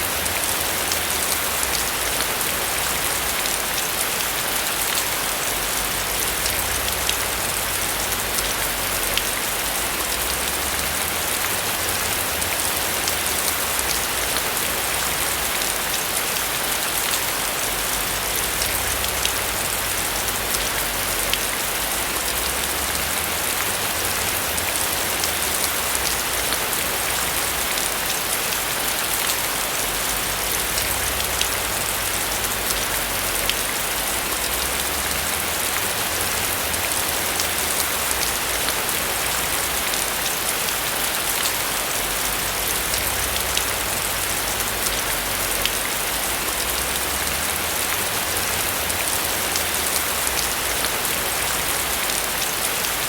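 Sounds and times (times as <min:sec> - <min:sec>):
rain on a roof: 0:00.0 - 0:53.0.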